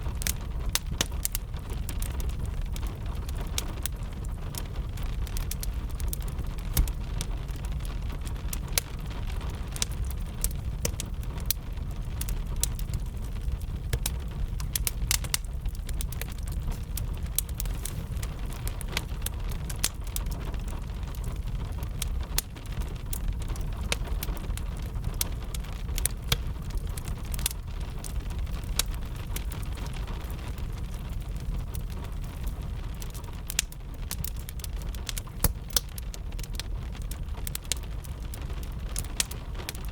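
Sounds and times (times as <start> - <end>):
rain: 0.0 - 39.9
wood fire crackling and popping: 0.0 - 39.9.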